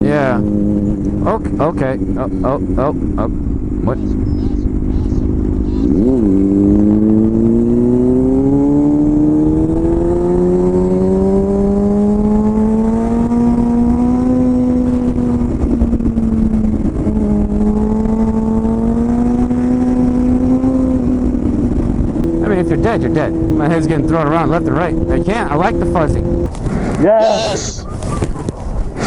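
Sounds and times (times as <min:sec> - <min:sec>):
motorcycle engine revving: 0:00.0 - 0:27.4
low steady rumble: 0:00.0 - 0:29.0.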